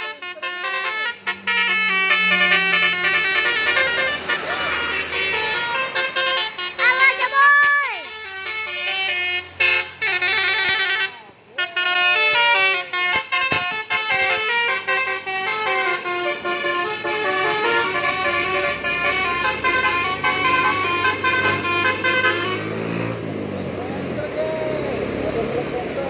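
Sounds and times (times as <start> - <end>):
multi-tone bus horn melody: 0.0 - 23.2.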